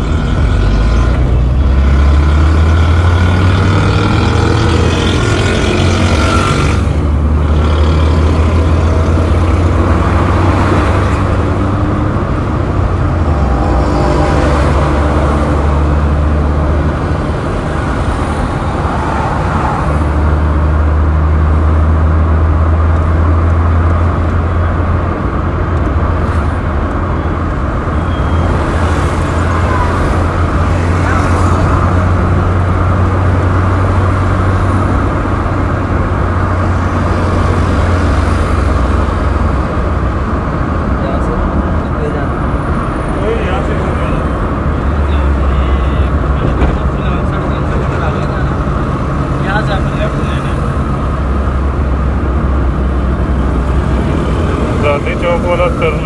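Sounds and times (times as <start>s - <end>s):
low engine and road rumble: 0.0s - 56.0s
vehicles passing by: 0.0s - 56.0s.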